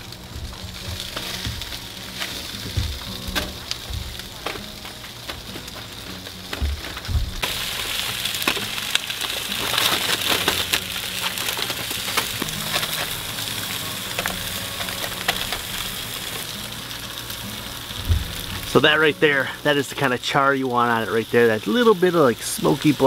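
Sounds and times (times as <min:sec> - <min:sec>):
food sizzling on a gas grill: 0:00.0 - 0:23.0.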